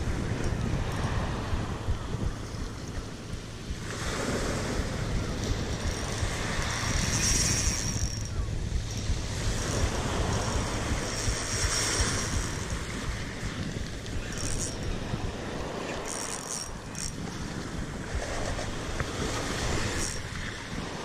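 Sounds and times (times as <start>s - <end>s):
faint high whirring: 0.0s - 21.0s
small waves washing on shore: 0.0s - 21.0s
wind buffeting microphone: 0.0s - 21.0s.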